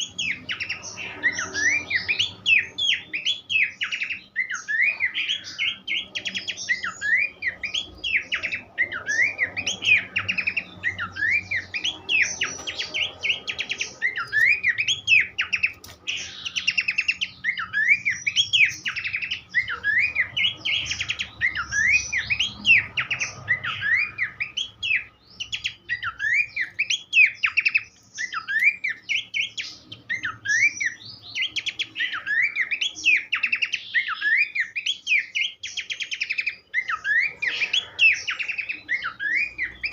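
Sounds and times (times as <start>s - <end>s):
bird chattering: 0.0s - 39.9s
bird whistling: 0.0s - 39.9s.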